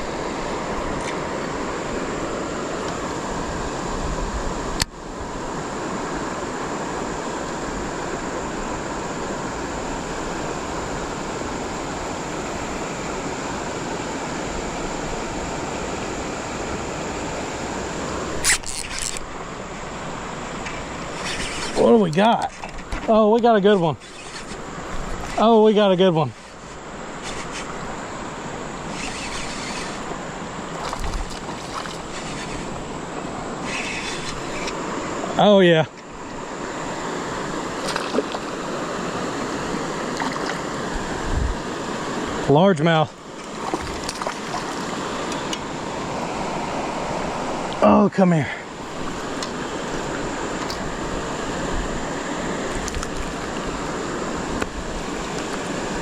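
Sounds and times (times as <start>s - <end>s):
flowing creek water: 0.0s - 56.0s.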